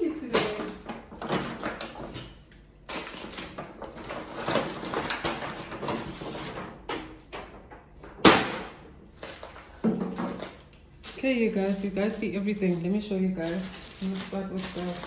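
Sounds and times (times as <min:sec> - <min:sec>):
grocery bags rustling: 0:00.0 - 0:06.6, 0:09.1 - 0:15.0.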